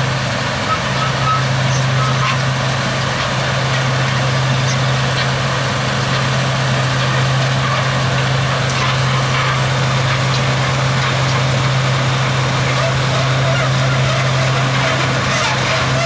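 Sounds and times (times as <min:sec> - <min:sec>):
steady mechanical noise: 0:00.0 - 0:16.0
tractor engine hum: 0:00.0 - 0:16.0.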